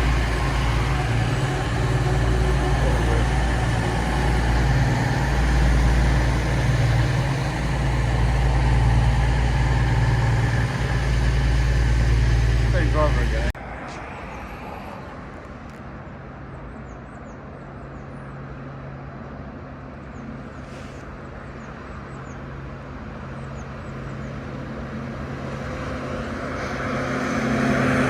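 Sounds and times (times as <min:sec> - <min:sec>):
diesel train engine humming: 0:00.0 - 0:28.0.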